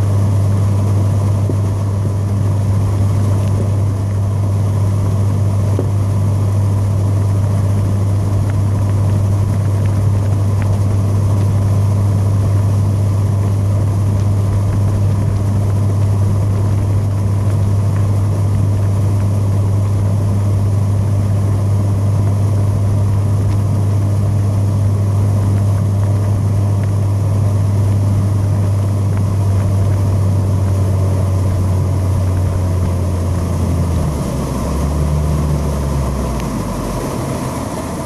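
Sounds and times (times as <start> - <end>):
boat motor running: 0.0 - 38.0.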